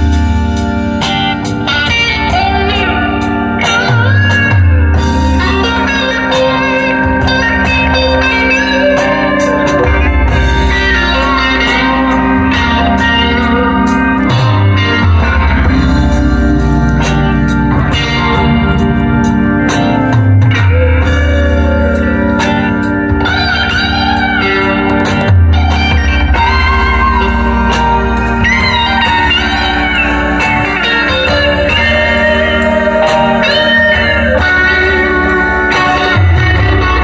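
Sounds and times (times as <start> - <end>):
bass line: 0.0 - 37.0
blues-rock band music: 0.0 - 37.0
lead guitar line: 0.0 - 37.0
steady drum beat: 0.0 - 37.0.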